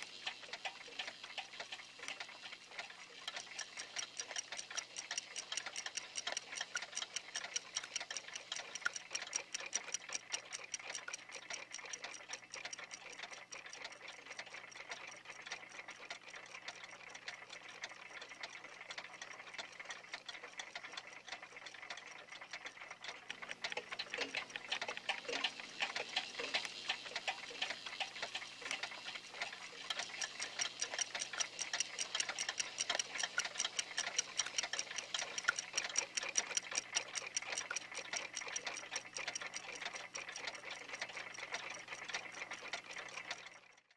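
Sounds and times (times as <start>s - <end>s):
clock ticking rapidly: 0.0s - 43.9s.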